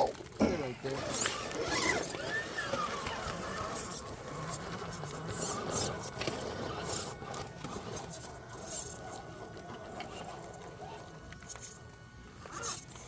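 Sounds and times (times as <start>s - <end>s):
tyres scraping on rock: 0.0s - 11.8s, 12.4s - 13.0s
electric motor whine: 0.0s - 13.0s.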